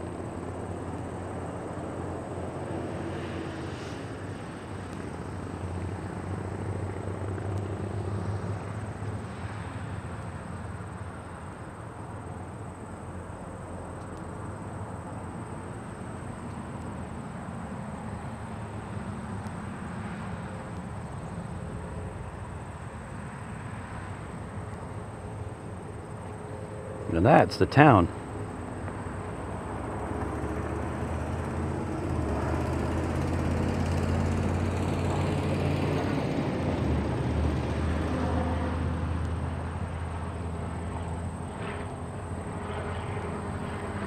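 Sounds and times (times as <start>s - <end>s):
distant aircraft engine drone: 0.0s - 44.0s.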